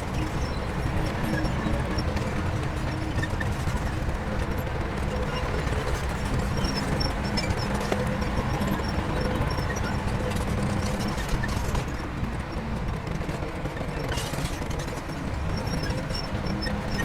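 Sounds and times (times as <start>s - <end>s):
clanks and clicks: 0.0s - 17.0s
diesel engine low rumble: 0.0s - 17.0s.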